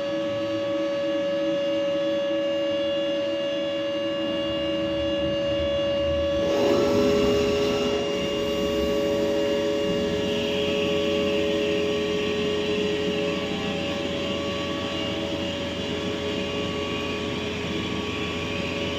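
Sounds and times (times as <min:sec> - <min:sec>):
lathe machine whine: 0:00.0 - 0:18.9.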